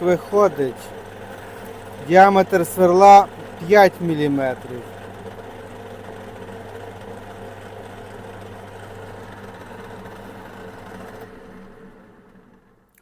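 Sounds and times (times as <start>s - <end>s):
machine tool motor hum: 0.0s - 12.7s.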